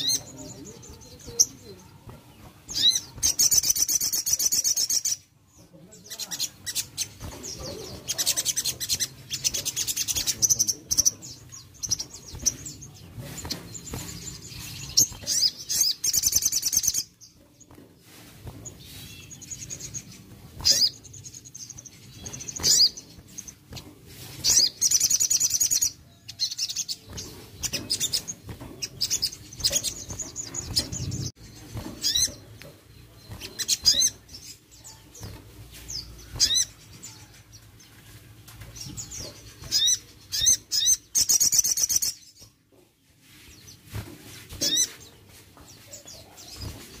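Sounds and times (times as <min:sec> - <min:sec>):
wings fluttering: 0:00.0 - 0:04.8, 0:06.1 - 0:42.6, 0:43.2 - 0:47.0
bird chirping and trilling: 0:00.0 - 0:38.0, 0:38.7 - 0:42.6, 0:44.6 - 0:47.0.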